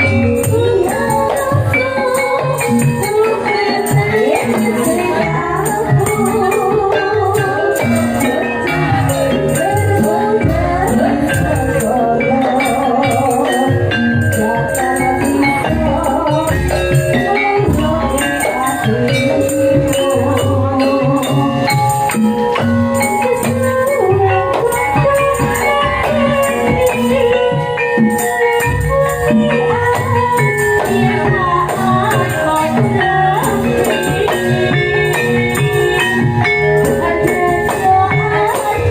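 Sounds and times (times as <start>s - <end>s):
steady drum beat: 0.0s - 38.9s
woman singing: 0.0s - 38.9s.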